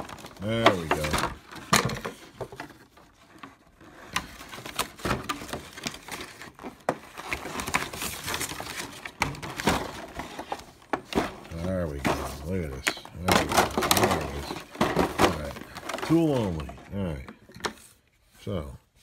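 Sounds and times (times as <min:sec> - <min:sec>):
plastic packaging crackling: 0:00.0 - 0:16.8.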